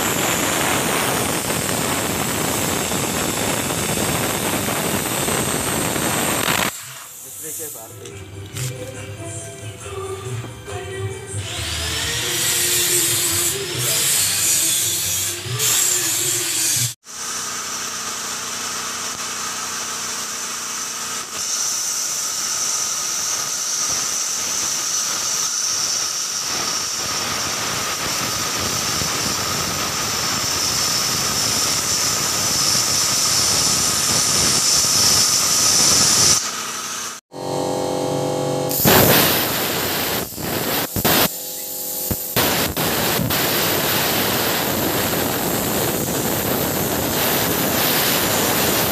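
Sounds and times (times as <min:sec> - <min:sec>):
plasma cutter hissing: 0:00.0 - 0:08.8, 0:11.5 - 0:37.2, 0:38.6 - 0:48.9.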